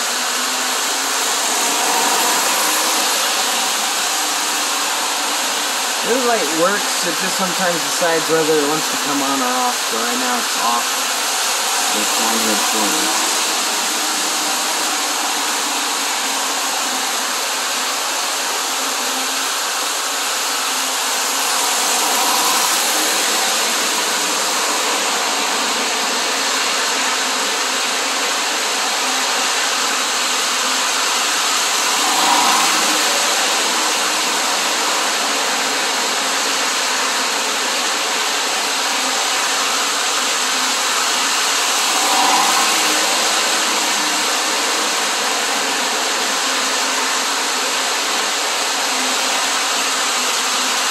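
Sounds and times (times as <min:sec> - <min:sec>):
toy train motor whirring: 0:00.0 - 0:35.8, 0:38.9 - 0:45.7.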